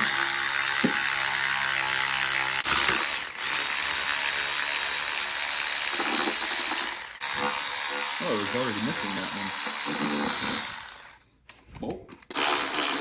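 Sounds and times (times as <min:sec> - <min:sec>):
impact wrench hammering: 0:00.0 - 0:11.1.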